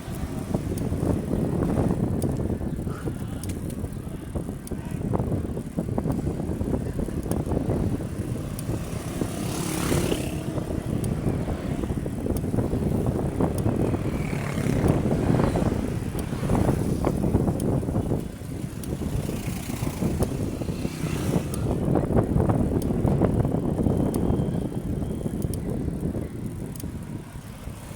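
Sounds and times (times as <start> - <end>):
bicycle road rumble: 0.0 - 27.9
wind buffeting microphone: 0.0 - 27.9.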